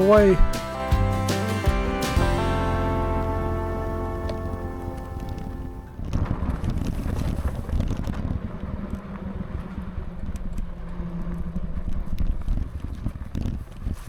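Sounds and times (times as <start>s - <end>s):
electric bike rumbling on dirt trail: 1.8s - 14.0s.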